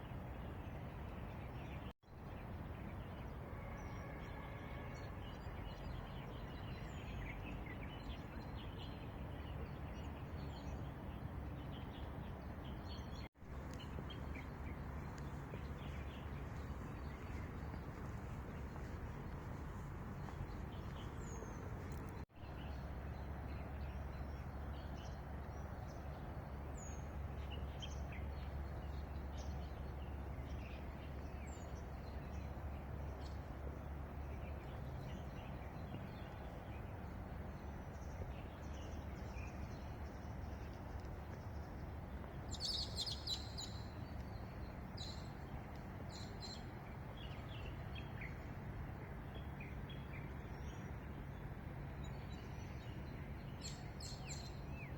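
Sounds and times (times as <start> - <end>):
small birds chirping: 3.9 - 48.5.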